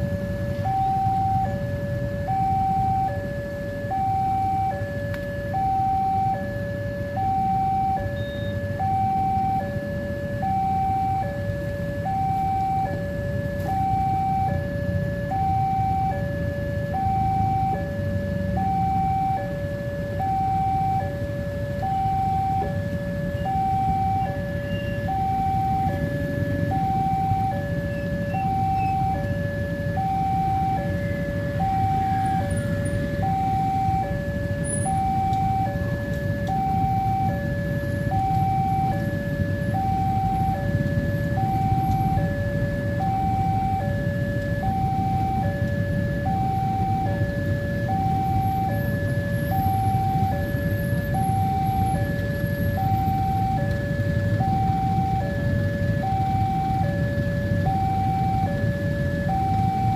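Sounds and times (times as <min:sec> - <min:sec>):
two-tone crossing alarm: 0:00.0 - 0:59.9.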